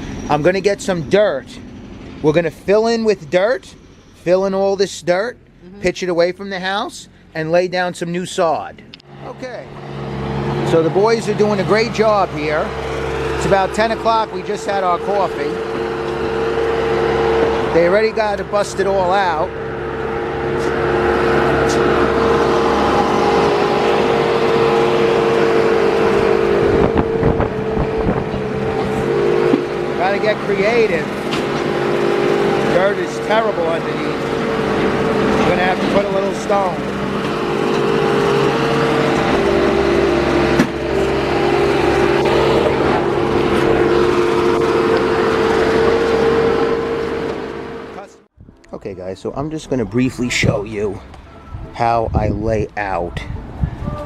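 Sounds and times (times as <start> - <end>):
diesel engine running: 0.0 - 54.0
steady whine: 0.0 - 54.0.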